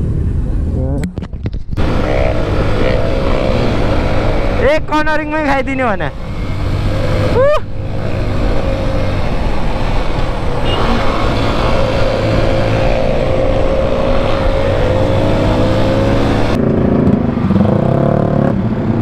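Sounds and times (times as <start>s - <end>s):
wind rushing over microphone: 0.0s - 18.8s.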